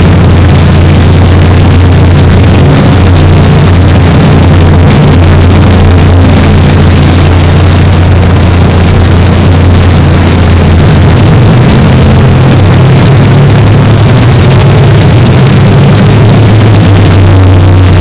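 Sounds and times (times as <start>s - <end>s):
low droning hum: 0.0s - 18.0s.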